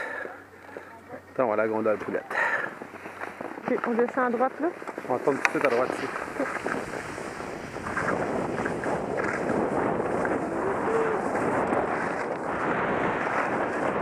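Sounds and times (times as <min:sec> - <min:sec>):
skis sliding over packed snow: 0:00.0 - 0:14.0
wind over camera: 0:01.4 - 0:14.0.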